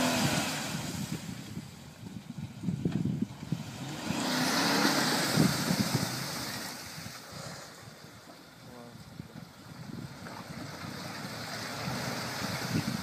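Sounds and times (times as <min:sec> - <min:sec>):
wind buffeting the microphone: 0:00.0 - 0:08.2, 0:08.9 - 0:13.0
suv engine revving: 0:00.0 - 0:08.6, 0:09.4 - 0:13.0.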